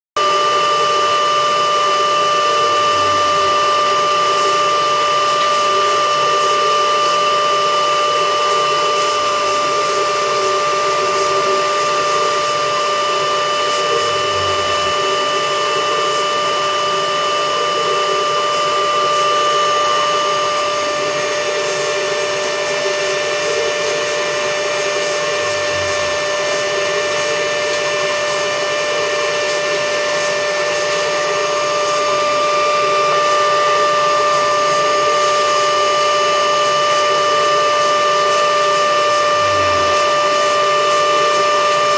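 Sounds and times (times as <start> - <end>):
pipe bevelling machine whine: 0.2 - 41.9.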